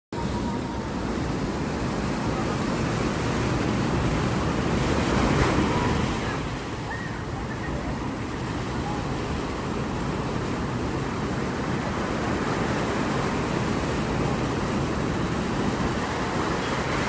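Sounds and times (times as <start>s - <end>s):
sea waves on a beach: 0.1s - 17.0s.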